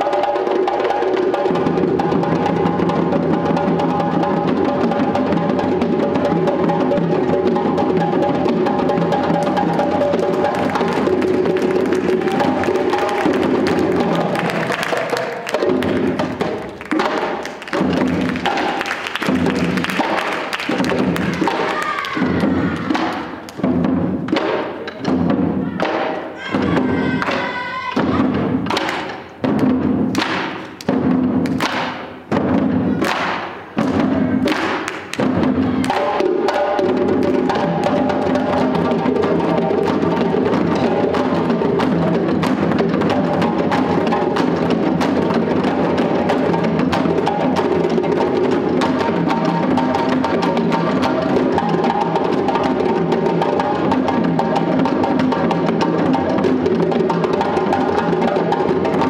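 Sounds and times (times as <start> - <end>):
drum ensemble playing: 0.0 - 59.0.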